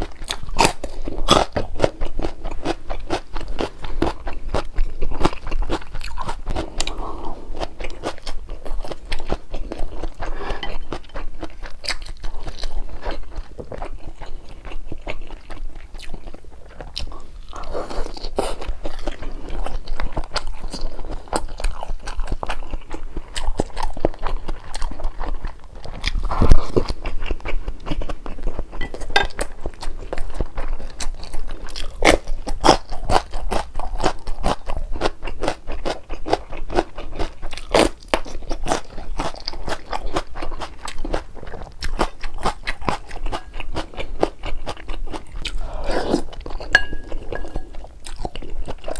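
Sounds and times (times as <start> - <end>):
crunchy chewing and biting: 0.0 - 48.9.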